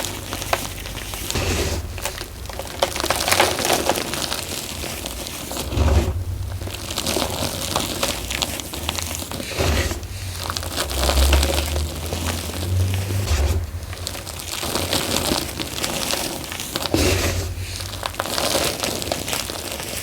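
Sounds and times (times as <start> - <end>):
chalk crunching in a bowl: 0.0 - 20.0.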